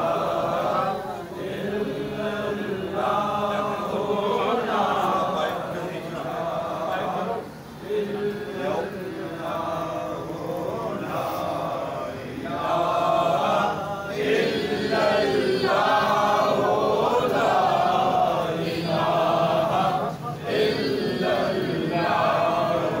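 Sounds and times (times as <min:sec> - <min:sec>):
men chanting in unison: 0:00.0 - 0:23.0.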